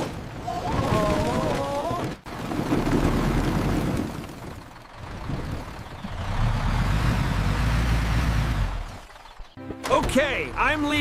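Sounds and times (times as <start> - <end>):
heavy truck engine rumbling: 0.2 - 11.0.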